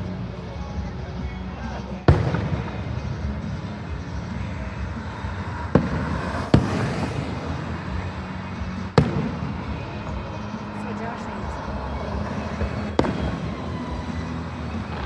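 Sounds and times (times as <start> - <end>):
background music: 0.0 - 15.0
fireworks booming: 1.7 - 15.0.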